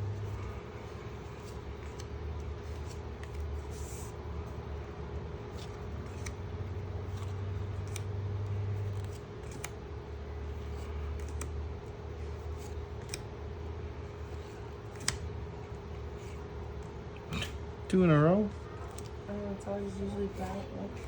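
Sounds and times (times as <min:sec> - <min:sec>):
low background hum: 0:00.0 - 0:21.0
trading cards clicking and sliding: 0:00.1 - 0:09.8, 0:10.4 - 0:17.6, 0:18.6 - 0:19.2, 0:20.1 - 0:21.0.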